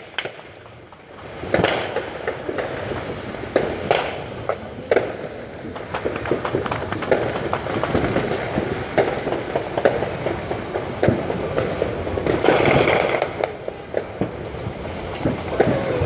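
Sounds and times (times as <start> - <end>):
fireworks crackling: 0.0 - 16.0
fireworks popping and banging: 0.0 - 16.0.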